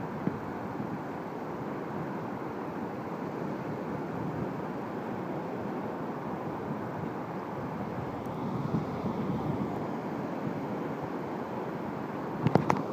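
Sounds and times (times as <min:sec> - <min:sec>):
wind: 0:00.0 - 0:12.9.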